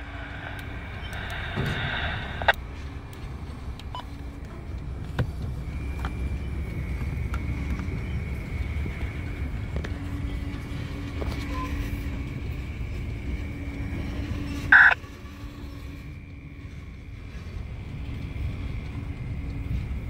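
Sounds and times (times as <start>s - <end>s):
freight train cars rolling past: 0.0s - 20.0s.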